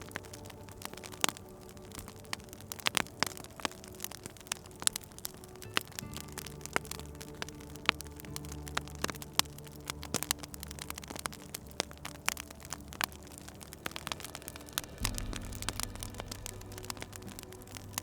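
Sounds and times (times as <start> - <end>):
low steady hum: 0.0 - 18.0
wood fire crackling and popping: 0.0 - 18.0.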